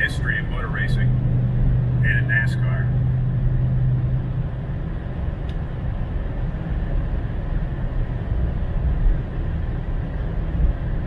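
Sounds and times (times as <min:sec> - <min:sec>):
road and engine noise in car cabin: 0:00.0 - 0:11.0.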